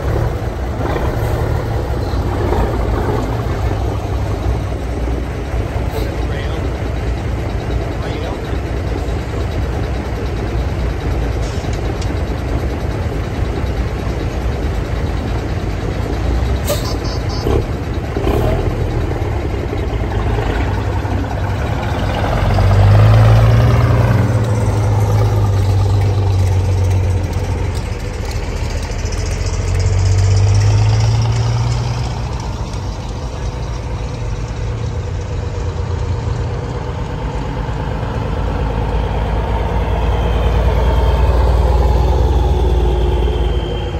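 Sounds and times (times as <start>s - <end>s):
heavy trucks driving past: 0.0s - 43.9s
trucks idling: 0.0s - 43.9s.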